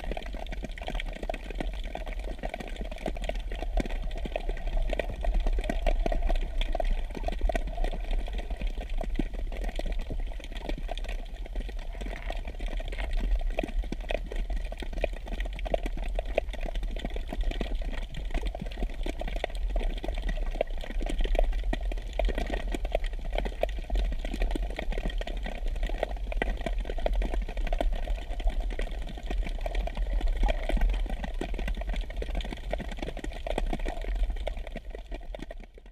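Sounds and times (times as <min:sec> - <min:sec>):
underwater low rumble: 0:00.0 - 0:35.9.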